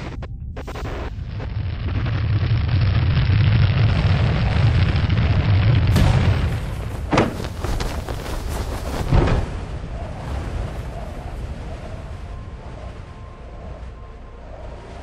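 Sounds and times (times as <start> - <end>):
loud deep rumble: 0.0 - 14.0.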